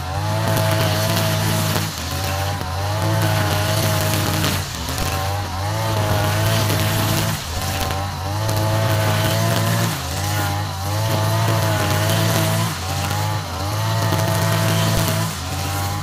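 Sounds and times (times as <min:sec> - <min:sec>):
brush cutter engine cutting grass: 0:00.0 - 0:16.0.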